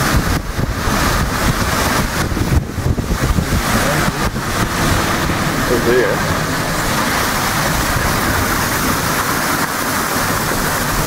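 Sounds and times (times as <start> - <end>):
low engine rumble: 0.0 - 11.0
water sloshing around vehicle: 0.0 - 11.0.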